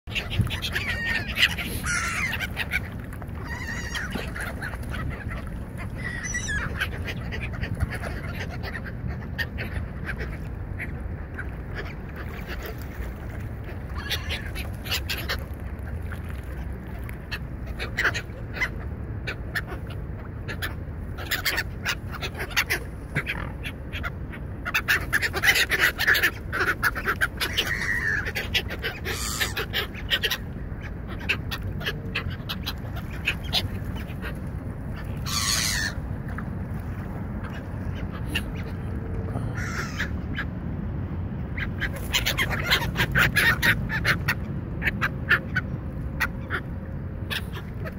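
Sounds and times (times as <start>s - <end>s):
gulls and swans calling: 0.1s - 47.9s.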